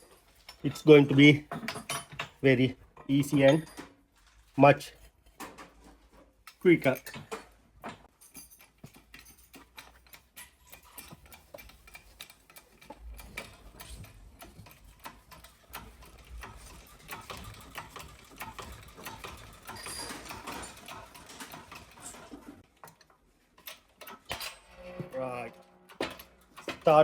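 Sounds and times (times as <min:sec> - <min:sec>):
light metal clatter: 0:00.0 - 0:27.0.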